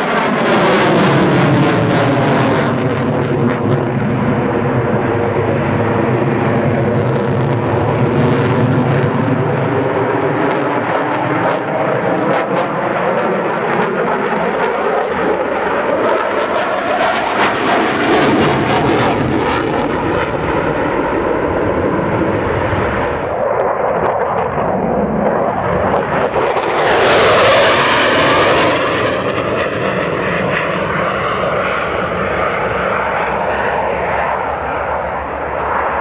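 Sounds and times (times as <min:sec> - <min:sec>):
fighter jet engines roaring: 0:00.0 - 0:36.0.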